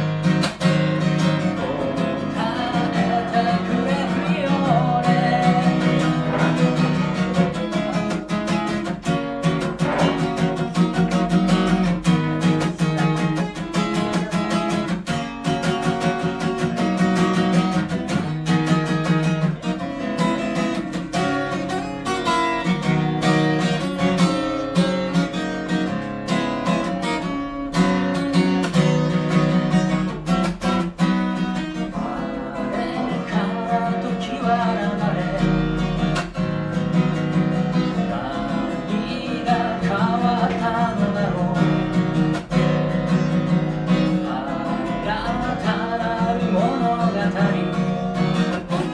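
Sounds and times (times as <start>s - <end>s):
man singing: 0.0s - 25.4s, 28.2s - 48.9s
acoustic guitar strummed: 0.0s - 48.9s.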